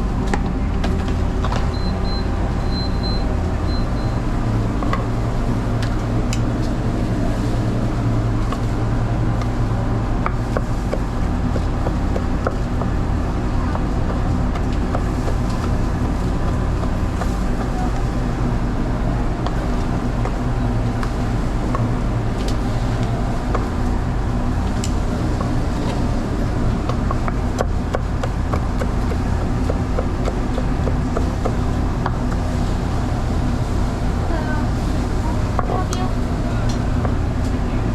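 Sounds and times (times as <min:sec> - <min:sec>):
low machine hum: 0:00.0 - 0:37.9.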